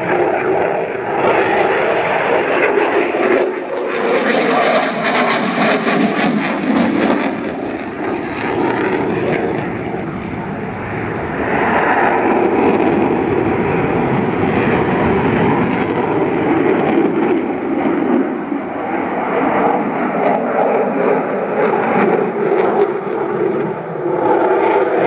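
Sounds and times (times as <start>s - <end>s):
aircraft engines passing overhead: 0.0s - 25.0s.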